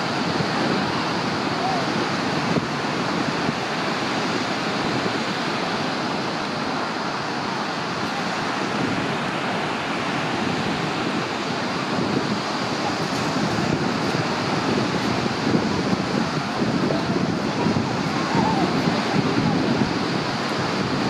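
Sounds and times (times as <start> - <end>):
waves breaking on beach: 0.0 - 21.0
wind noise on microphone: 0.0 - 21.0.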